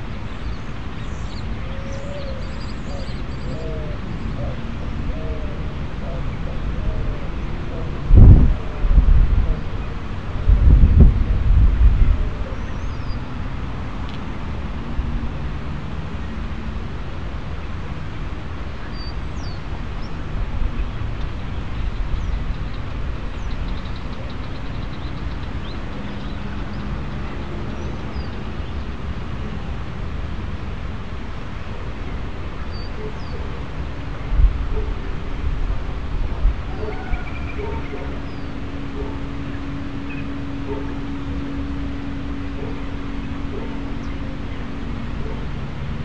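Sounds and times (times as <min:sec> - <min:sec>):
low rumble and hiss: 0:00.0 - 0:46.0
low wind buffet: 0:00.0 - 0:46.0.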